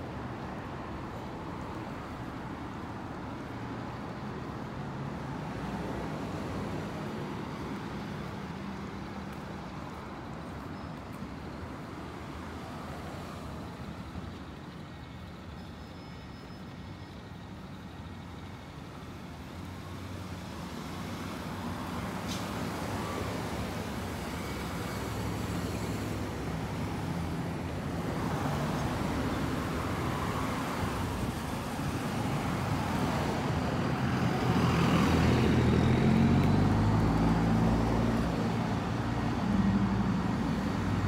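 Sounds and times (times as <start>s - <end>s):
car and truck engines: 0.0s - 41.0s
tyres passing on road: 0.0s - 41.0s.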